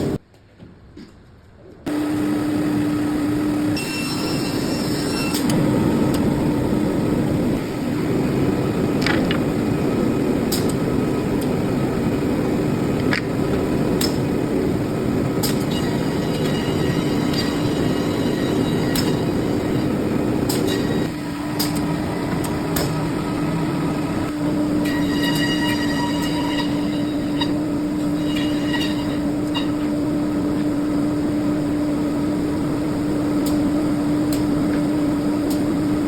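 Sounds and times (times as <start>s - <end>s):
machine running with hum: 1.9s - 36.0s.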